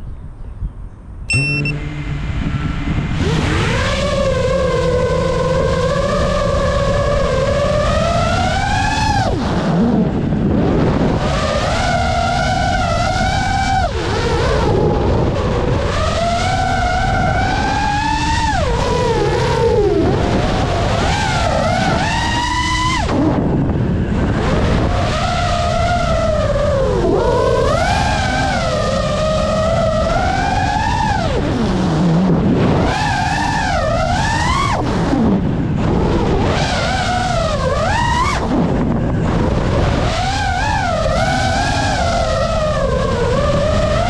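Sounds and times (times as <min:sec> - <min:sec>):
drone motors whining: 0:01.3 - 0:44.0
wind rushing: 0:02.1 - 0:44.0.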